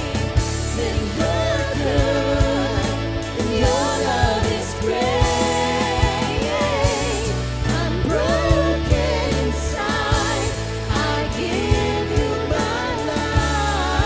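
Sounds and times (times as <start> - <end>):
person singing: 0.0 - 14.0
steady drum beat: 0.0 - 14.0
worship band playing: 0.0 - 14.0.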